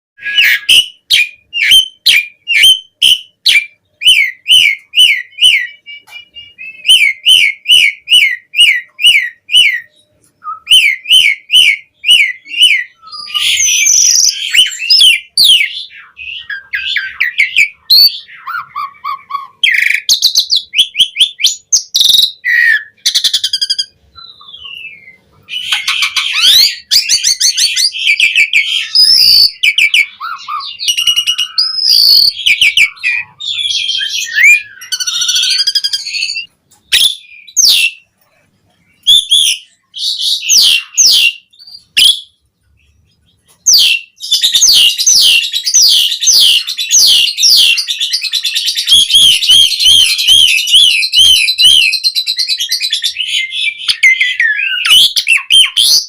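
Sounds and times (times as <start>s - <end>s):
starling singing: 0.2s - 38.2s, 38.8s - 56.0s.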